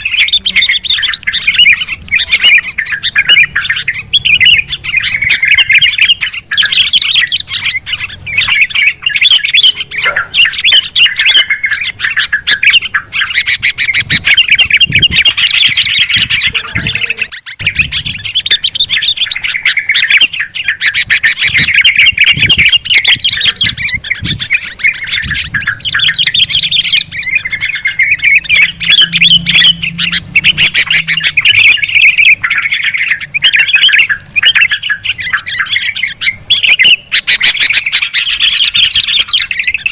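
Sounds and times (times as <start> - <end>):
bulbuls chattering and calling: 0.0 - 39.9.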